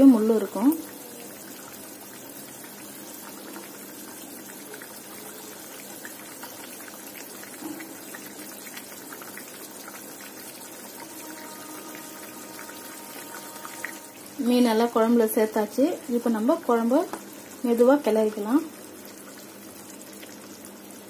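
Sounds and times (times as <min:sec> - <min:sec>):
curry bubbling in a pan: 0:00.0 - 0:21.0.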